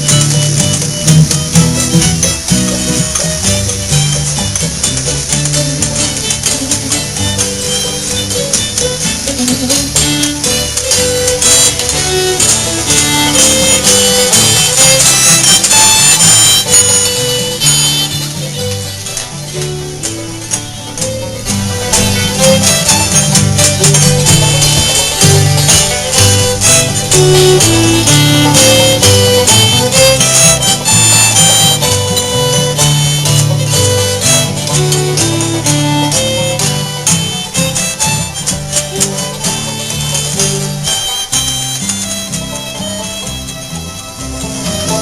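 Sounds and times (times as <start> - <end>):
string band playing: 0.0 - 45.0.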